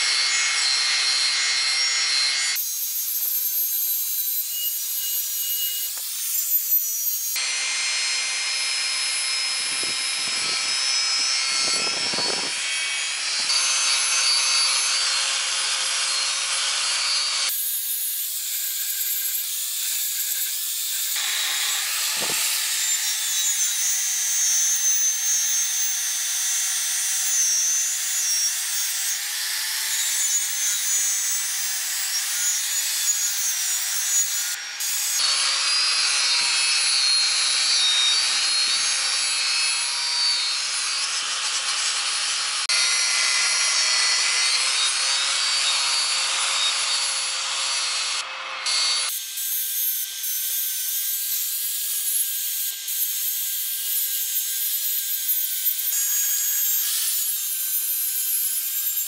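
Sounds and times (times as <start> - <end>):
angle grinder grinding metal: 0.0 - 59.0.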